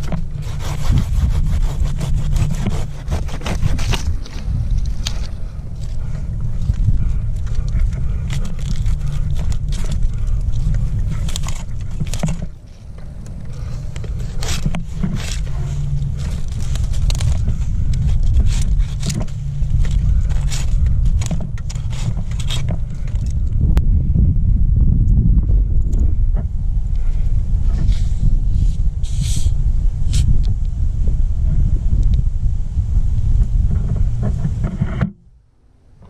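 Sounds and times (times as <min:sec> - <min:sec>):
climbing hardware scraping on bark: 0:00.0 - 0:23.6, 0:25.9 - 0:30.4, 0:33.3 - 0:35.2
low rumble: 0:00.0 - 0:36.0.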